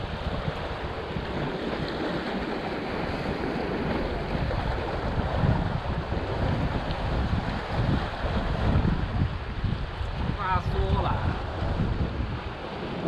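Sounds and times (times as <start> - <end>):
waves splashing against rocks: 0.0 - 13.0
wind buffeting microphone: 0.0 - 13.0.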